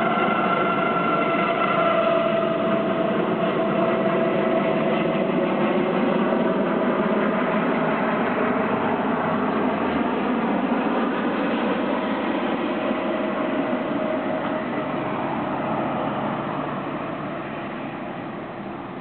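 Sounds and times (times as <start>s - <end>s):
helicopter rotor noise: 0.0s - 19.0s
helicopter turbine whine: 0.0s - 19.0s.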